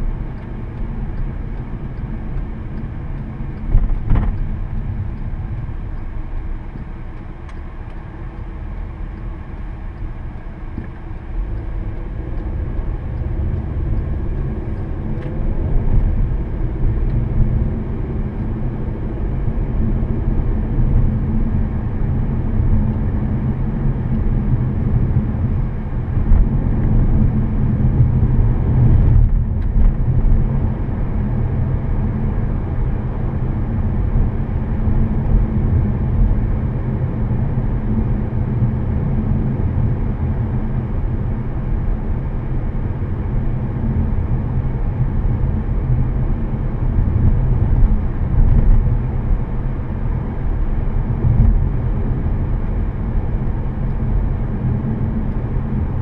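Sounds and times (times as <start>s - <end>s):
car engine rumble: 0.0s - 56.0s
tyres on the road: 0.0s - 56.0s.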